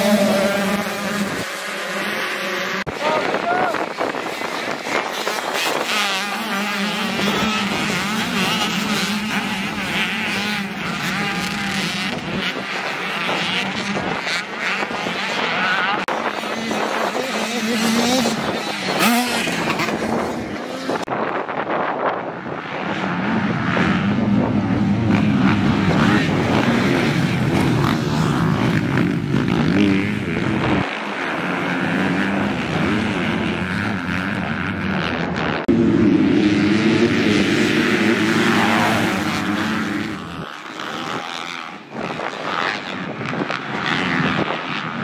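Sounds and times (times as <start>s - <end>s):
dirt bike engines revving: 0.0s - 45.0s.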